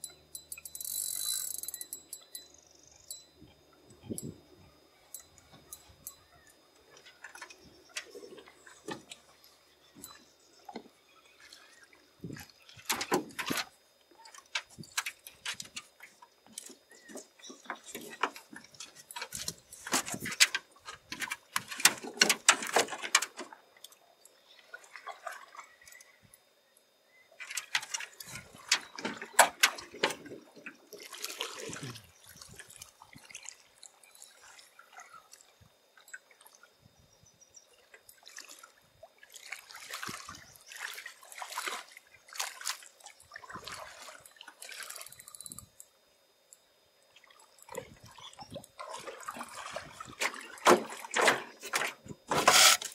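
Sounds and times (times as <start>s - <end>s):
person wading in shallow water: 3.4s - 26.6s, 27.2s - 36.9s, 37.7s - 52.9s
water splashing and sloshing: 5.0s - 26.4s, 27.2s - 37.0s, 37.7s - 46.1s, 47.0s - 52.9s.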